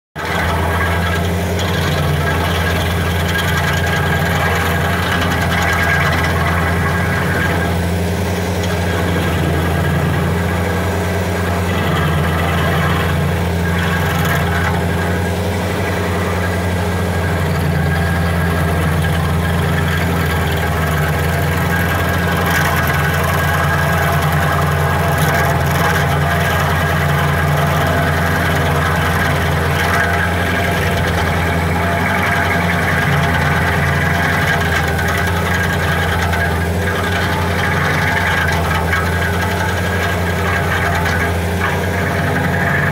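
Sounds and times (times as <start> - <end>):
loader engine at high throttle: 0.2 - 42.9
stump grinder cutting wheel: 0.2 - 42.9.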